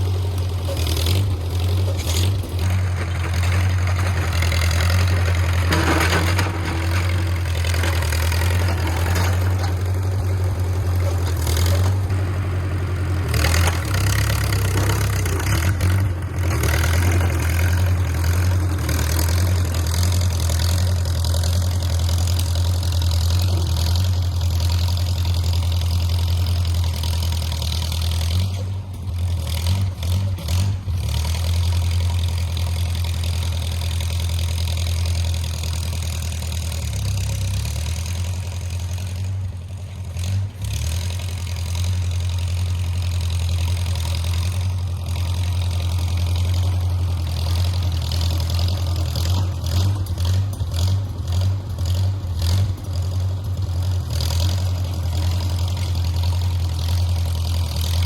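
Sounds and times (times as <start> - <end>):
bulldozer engine running: 0.0 - 58.0.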